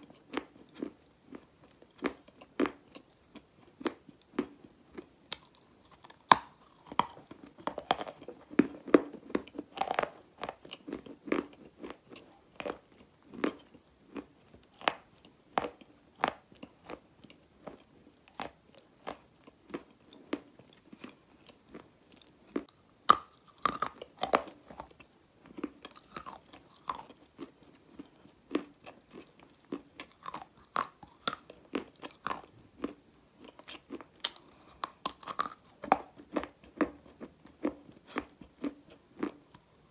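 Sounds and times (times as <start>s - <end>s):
clay being chewed with crunches: 0.0s - 39.9s.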